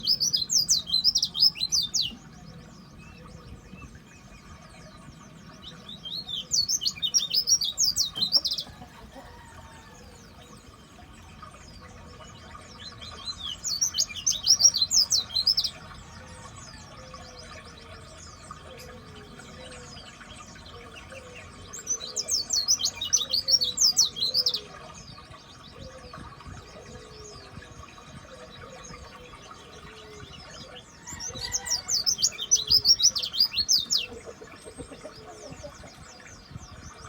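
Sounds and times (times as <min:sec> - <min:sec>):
bird twittering chirps: 0:00.0 - 0:16.0, 0:17.8 - 0:37.0.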